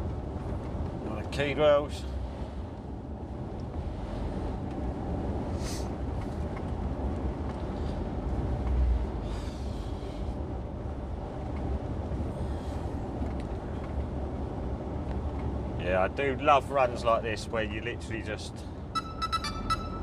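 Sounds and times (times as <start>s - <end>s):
lorry engine drone: 0.0s - 15.7s, 16.6s - 20.0s
tyres on wet road: 0.0s - 20.0s.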